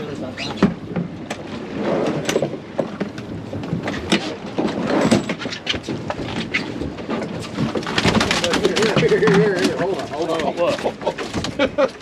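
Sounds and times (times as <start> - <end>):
water noise: 0.0 - 12.0
wind: 0.0 - 12.0
knocks and clatter on boat deck: 0.2 - 12.0.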